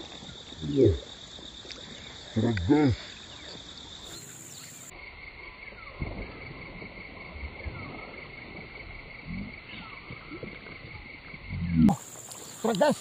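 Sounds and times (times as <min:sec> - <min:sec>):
insects droning: 0:00.0 - 0:13.0
soft outdoor hiss: 0:00.0 - 0:13.0.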